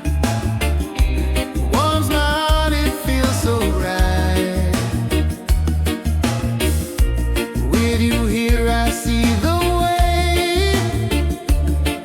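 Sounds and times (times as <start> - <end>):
reggae music: 0.0 - 12.0.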